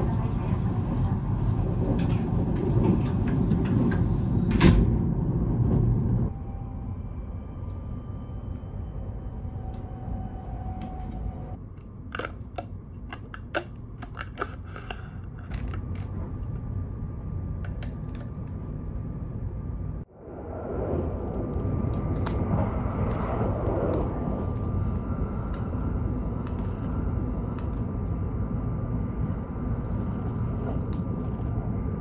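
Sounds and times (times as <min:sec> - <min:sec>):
train rumble inside carriage: 0:00.0 - 0:11.8, 0:14.8 - 0:32.0.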